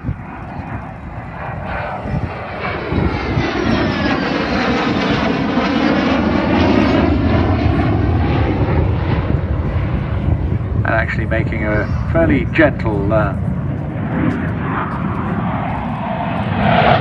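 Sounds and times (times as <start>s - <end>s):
jet engine roar passing: 0.0s - 17.0s.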